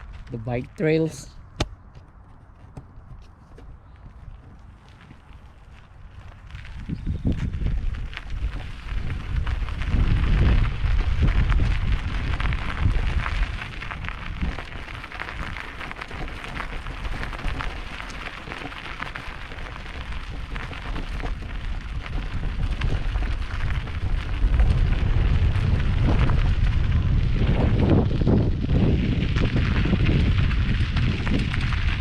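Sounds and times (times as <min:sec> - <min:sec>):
bike tyres crunching on rocky dirt: 0:00.0 - 0:32.0
wind rumbling on microphone: 0:00.0 - 0:32.0.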